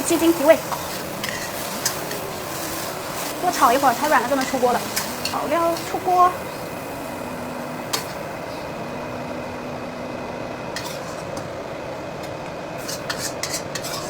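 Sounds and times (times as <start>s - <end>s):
kitchen range hood running: 0.0s - 14.0s.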